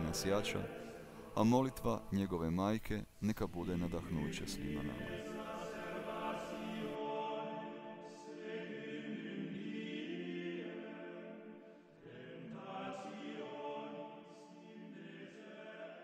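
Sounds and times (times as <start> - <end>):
voices singing sacred chant: 0.0 - 2.6, 3.2 - 16.0.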